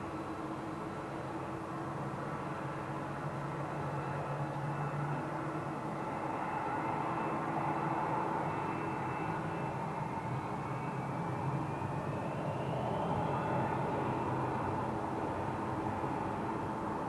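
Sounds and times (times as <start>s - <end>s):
jet engines whining: 0.1s - 17.0s.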